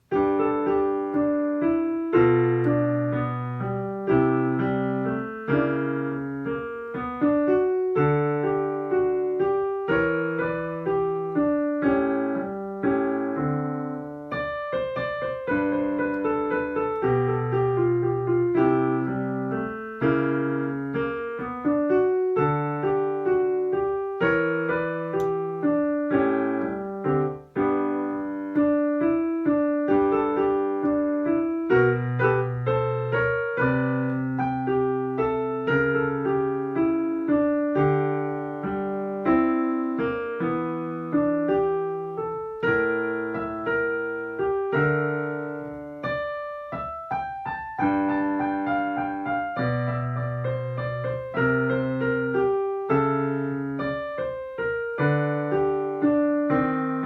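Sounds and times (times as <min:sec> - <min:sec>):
solo jazz piano: 0:00.0 - 0:57.0.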